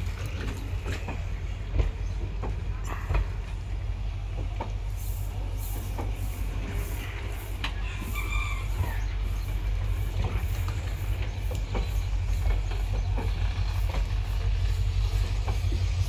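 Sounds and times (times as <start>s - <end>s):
wheels clicking over rail joints: 0.0s - 16.0s.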